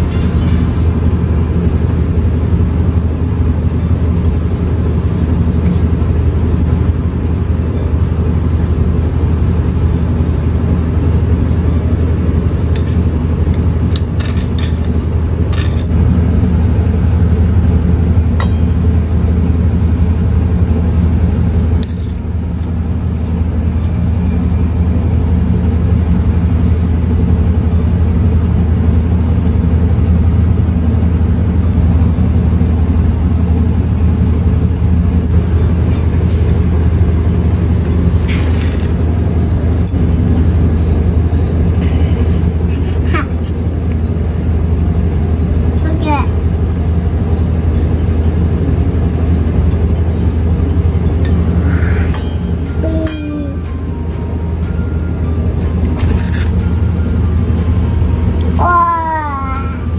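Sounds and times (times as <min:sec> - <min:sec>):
loud low rumble with hum: 0:00.0 - 0:59.9.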